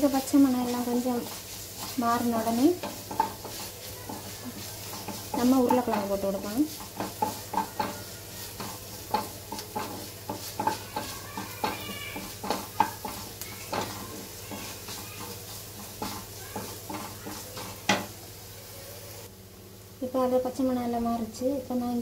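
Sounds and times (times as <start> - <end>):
wooden spatula scraping a pan: 0.0 - 18.3
light sizzle of frying: 0.0 - 22.0.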